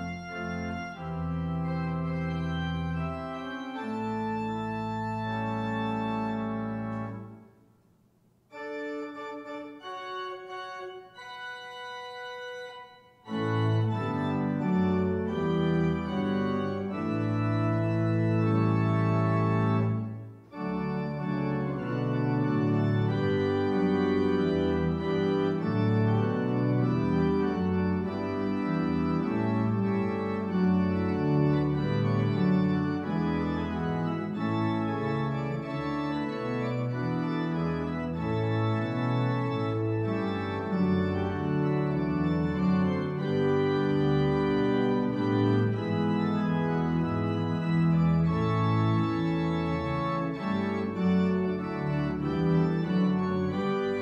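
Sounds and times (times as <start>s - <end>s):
organ chords: 0.0s - 54.0s.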